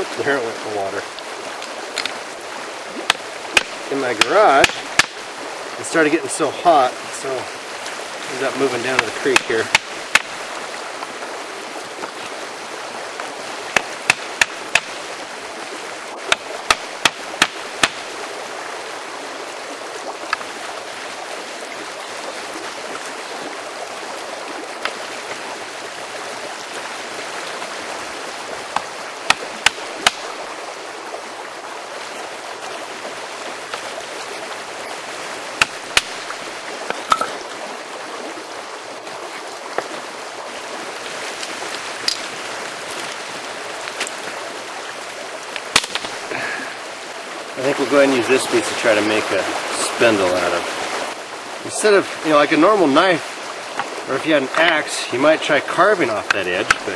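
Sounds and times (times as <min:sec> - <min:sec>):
creek running: 0:00.0 - 0:56.9.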